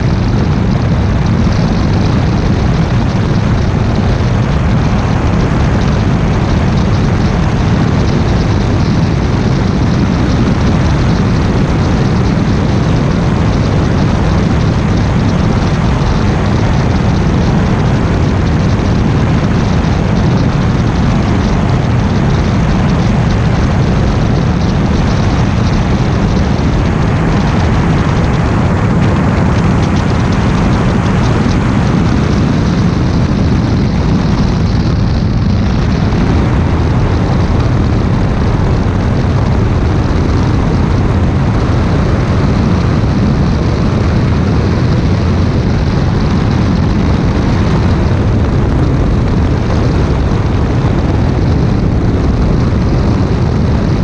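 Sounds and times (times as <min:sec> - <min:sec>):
propeller engine running: 0:00.0 - 0:54.0
wind rush over microphone: 0:00.0 - 0:54.0.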